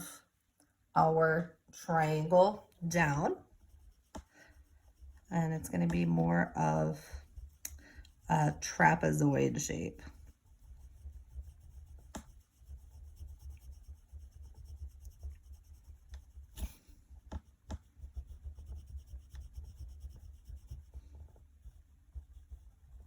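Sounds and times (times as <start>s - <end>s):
drawing tool scratching on paper: 2.8s - 9.2s, 10.0s - 23.0s.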